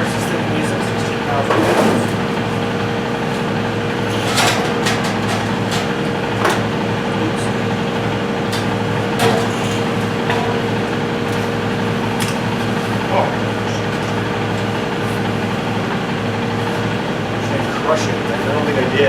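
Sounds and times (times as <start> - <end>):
air compressor knocking and clunking: 0.0 - 19.0
steady low hum: 0.0 - 19.0.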